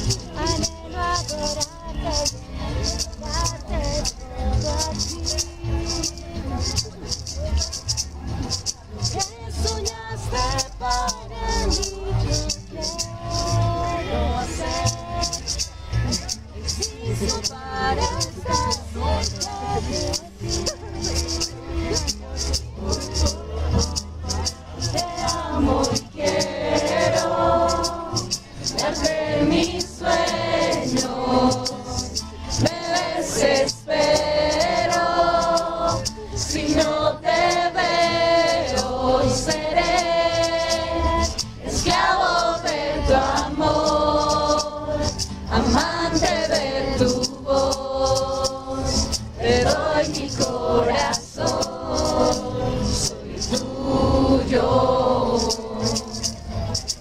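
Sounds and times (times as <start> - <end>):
shaker percussion: 0.0 - 57.0
voices singing together: 0.0 - 57.0.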